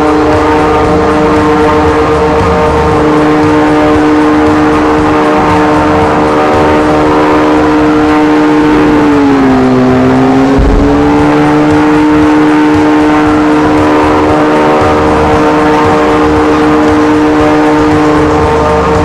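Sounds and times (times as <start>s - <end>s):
engine droning at steady revs: 0.0s - 19.0s.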